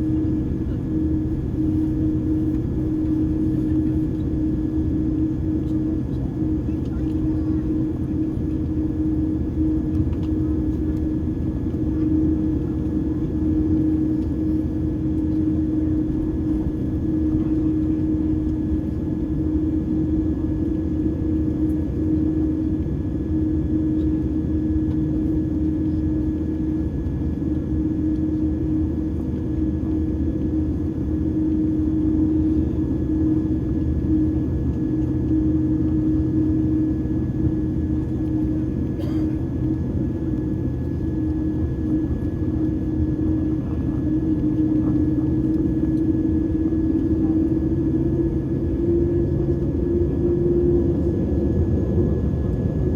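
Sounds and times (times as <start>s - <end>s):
jet engines droning: 0.0s - 52.9s.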